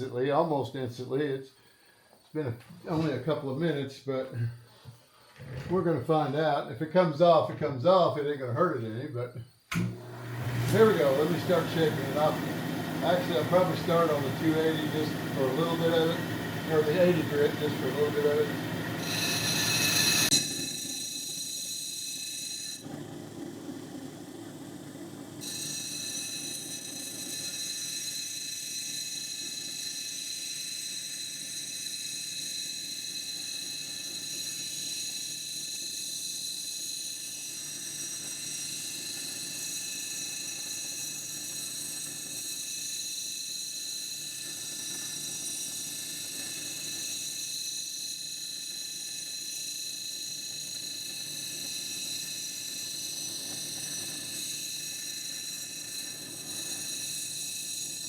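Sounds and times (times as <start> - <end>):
grinding machine whining: 9.7 - 58.0.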